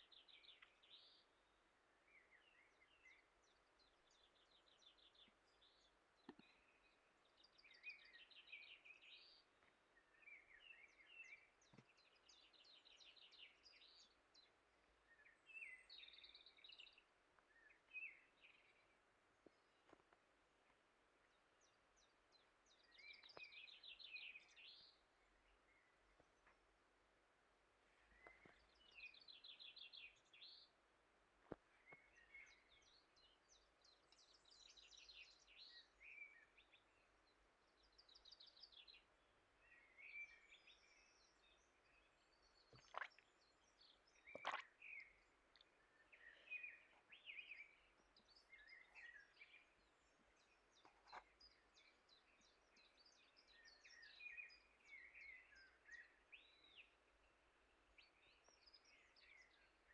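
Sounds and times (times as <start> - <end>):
small birds chirping and trilling: 0.0 - 26.7, 27.9 - 30.8, 31.5 - 59.9.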